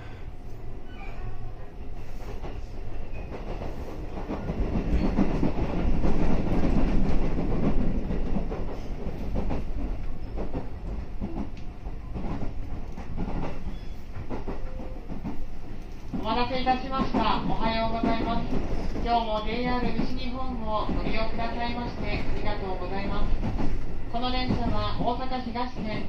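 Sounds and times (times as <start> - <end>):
train cabin rumble: 0.0 - 26.0.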